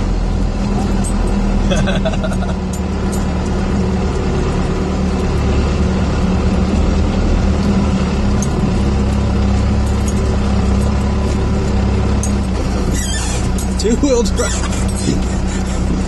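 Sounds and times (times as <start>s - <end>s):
diesel truck engine droning: 0.0s - 16.0s
tires on gravel: 0.0s - 16.0s.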